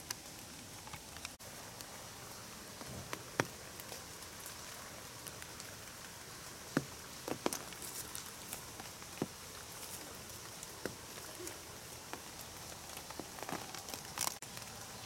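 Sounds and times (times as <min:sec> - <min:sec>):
rain hissing on umbrella: 0:00.0 - 0:15.0.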